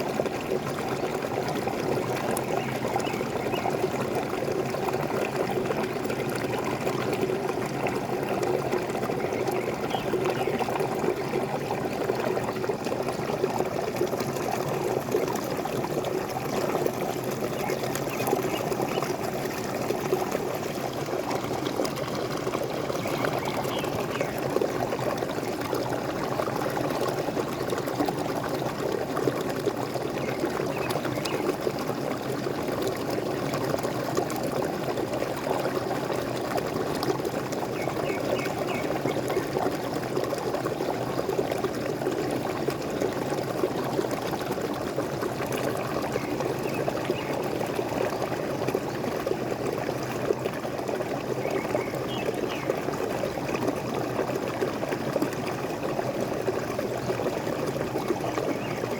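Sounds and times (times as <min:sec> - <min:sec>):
small waterfall splashing: 0:00.0 - 0:58.9.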